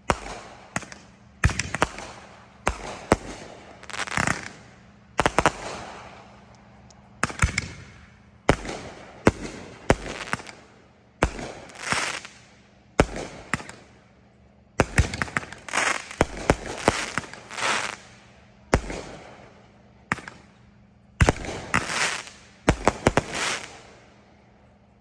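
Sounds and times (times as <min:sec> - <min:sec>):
fireworks bangs: 0:00.0 - 0:06.5, 0:07.2 - 0:13.9, 0:14.8 - 0:20.5, 0:21.2 - 0:24.0
fireworks crackling: 0:00.0 - 0:14.0, 0:14.8 - 0:20.6, 0:21.2 - 0:24.1.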